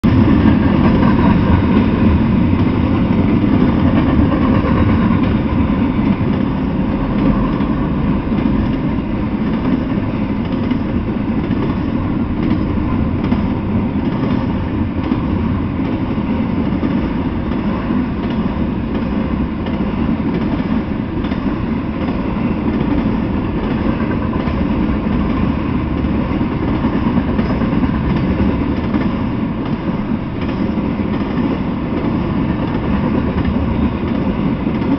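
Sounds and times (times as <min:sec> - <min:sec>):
freight train wheels rumbling on rails: 0:00.0 - 0:34.9.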